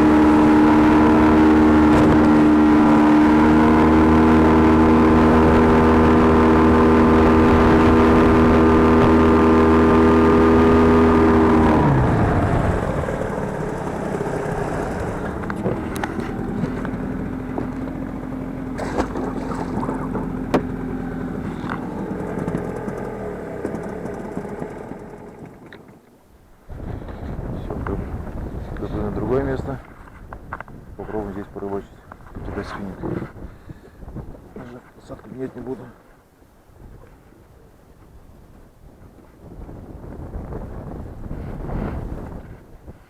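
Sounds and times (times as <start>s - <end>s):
outboard motor running: 0.0s - 34.8s.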